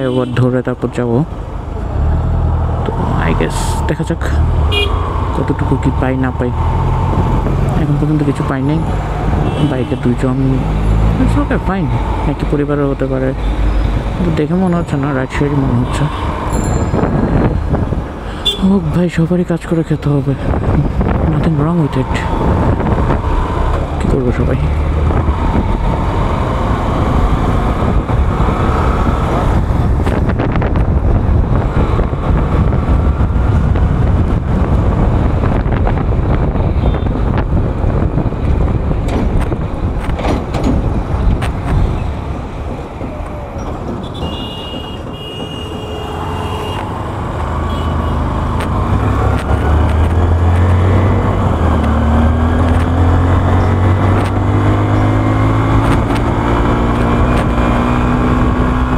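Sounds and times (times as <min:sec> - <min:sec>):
road and wind noise: 0:00.0 - 0:58.9.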